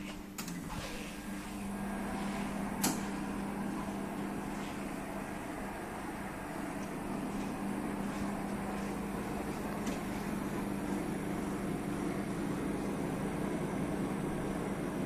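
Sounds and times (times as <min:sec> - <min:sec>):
refrigeration compressor humming: 0:00.0 - 0:15.0.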